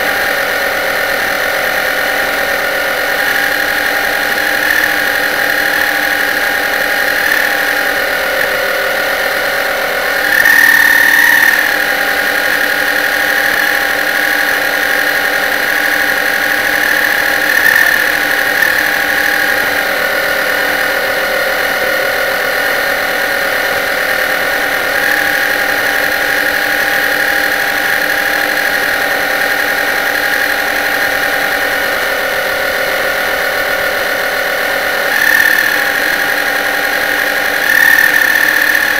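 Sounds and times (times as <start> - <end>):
model boat motor whining: 0.0 - 38.9.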